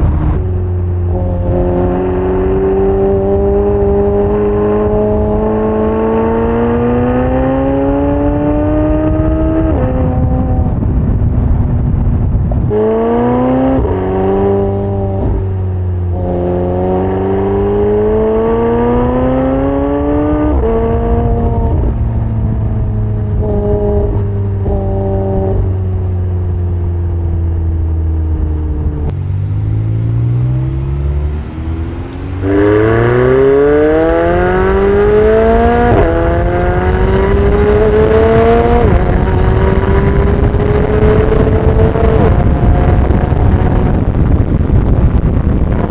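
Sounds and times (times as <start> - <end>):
car engine accelerating through gears: 0.0 - 45.9.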